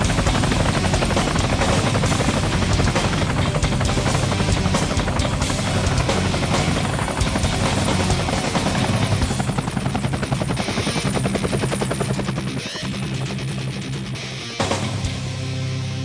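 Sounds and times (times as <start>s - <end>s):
helicopter rotor chopping: 0.0s - 15.2s
low engine drone: 0.0s - 16.0s.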